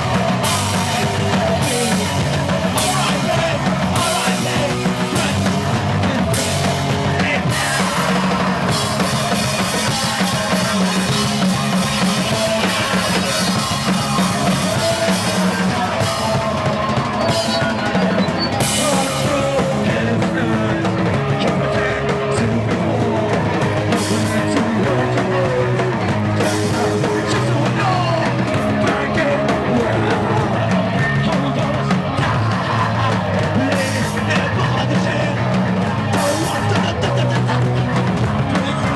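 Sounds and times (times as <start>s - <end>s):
drum kit: 0.0s - 38.9s
rock band playing live: 0.0s - 38.9s.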